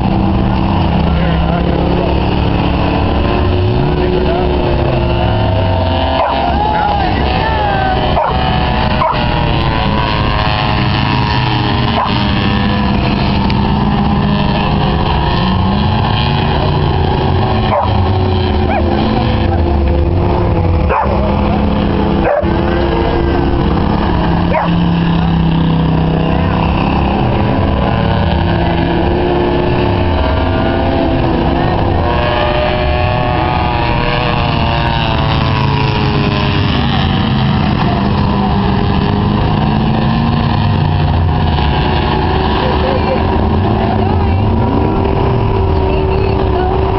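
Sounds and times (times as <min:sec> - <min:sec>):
race truck engines running hard: 0:00.0 - 0:46.9.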